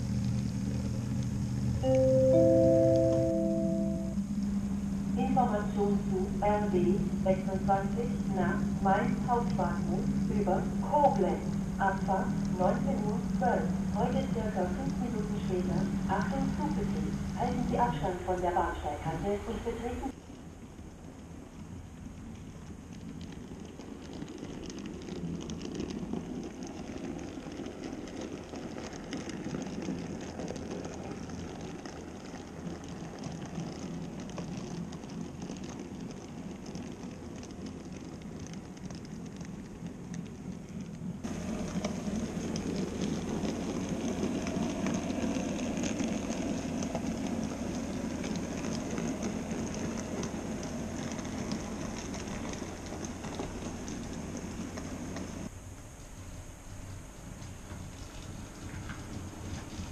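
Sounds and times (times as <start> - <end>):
model train rumbling: 0.0 - 59.9
wheels clicking over rails: 0.0 - 59.9.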